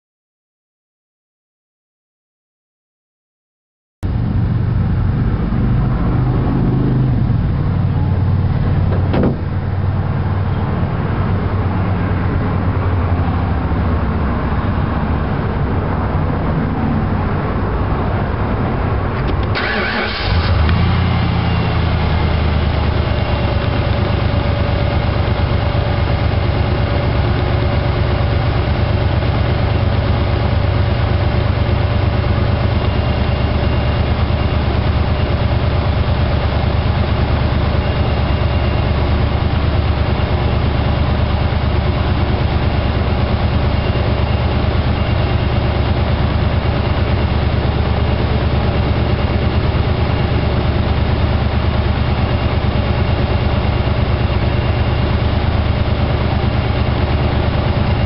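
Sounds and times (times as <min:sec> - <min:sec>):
engine idling rough: 0:04.0 - 0:58.0.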